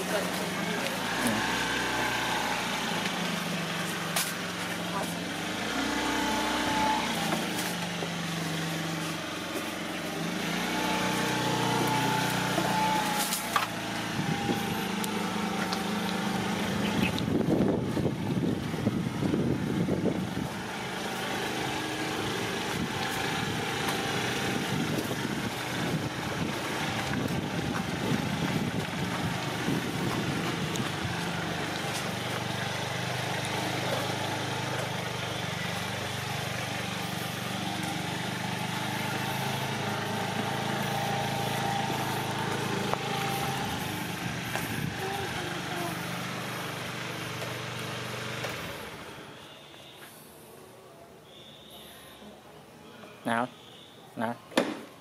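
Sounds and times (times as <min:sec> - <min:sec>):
scooter engine running: 0:00.0 - 0:50.4.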